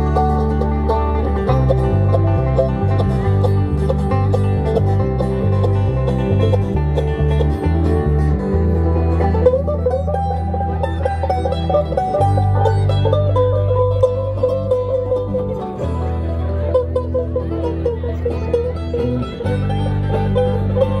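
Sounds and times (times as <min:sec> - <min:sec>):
banjo picking: 0:00.0 - 0:21.0
bass line: 0:00.0 - 0:21.0
electric guitars: 0:00.0 - 0:21.0.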